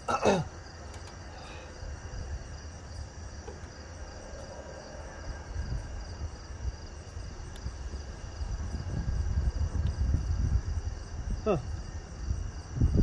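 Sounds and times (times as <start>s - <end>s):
low outdoor rumble: 0.0s - 13.0s
night insects chirping: 0.0s - 13.0s.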